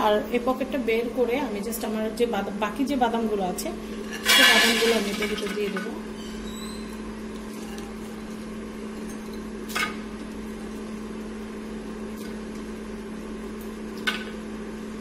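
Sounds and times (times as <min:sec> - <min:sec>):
air fryer fan humming: 0:00.0 - 0:15.0.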